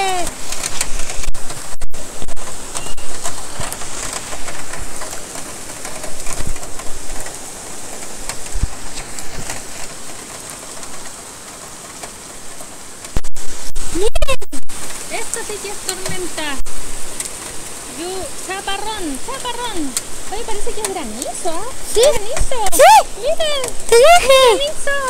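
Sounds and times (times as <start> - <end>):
heavy rain on plants and pavement: 0.0 - 25.0.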